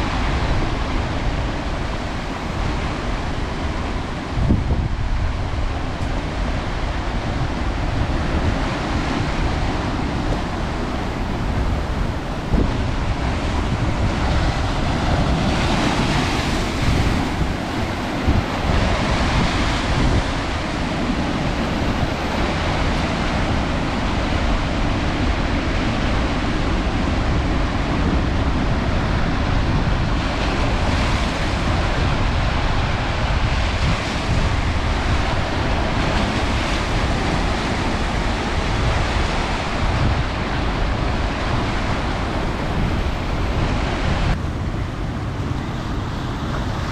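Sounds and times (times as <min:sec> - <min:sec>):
waves: 0:00.0 - 0:46.9
wind: 0:00.0 - 0:46.9
wind buffeting microphone: 0:00.0 - 0:46.9.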